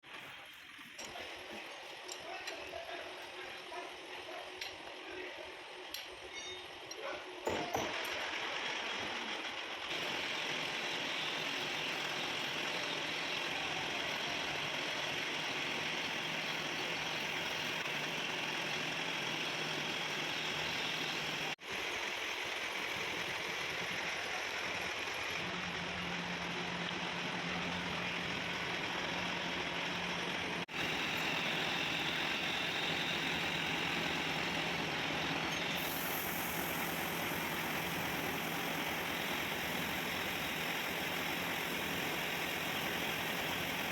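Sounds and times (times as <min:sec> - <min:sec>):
machine tool running: 0:07.8 - 0:43.9.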